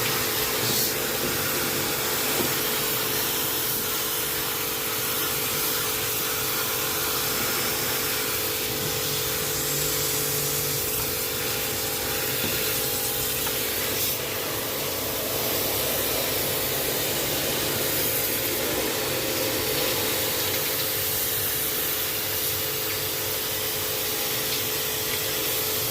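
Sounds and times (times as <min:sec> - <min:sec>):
pump motor hum: 0:00.0 - 0:25.9
water spray hissing: 0:00.0 - 0:25.9.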